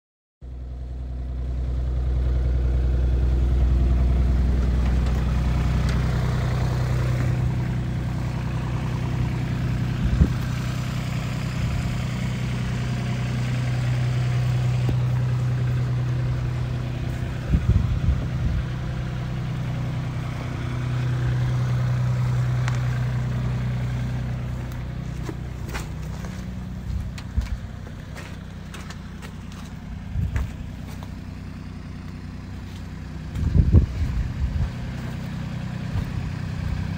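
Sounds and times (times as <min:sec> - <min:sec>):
excavator diesel engine: 0:00.4 - 0:36.9.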